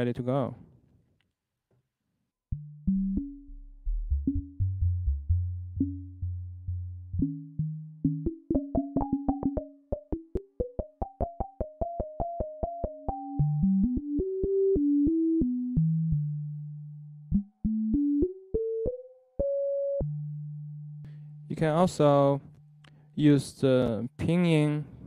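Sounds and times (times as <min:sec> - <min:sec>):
plucked synthesizer notes: 0:02.5 - 0:22.9.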